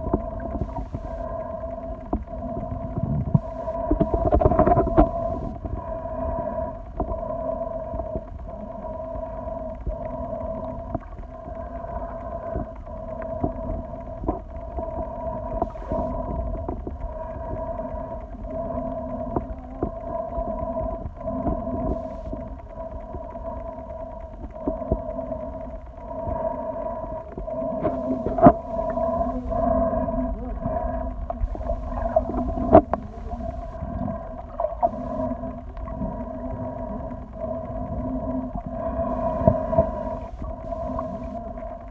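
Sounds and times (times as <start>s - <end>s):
hum of held tones: 0.0s - 41.9s
low underwater rumble: 0.0s - 41.9s.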